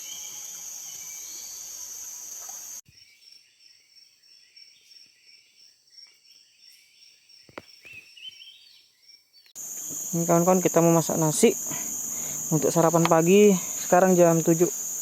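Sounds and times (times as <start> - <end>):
insects trilling and chirping: 0.0 - 15.0.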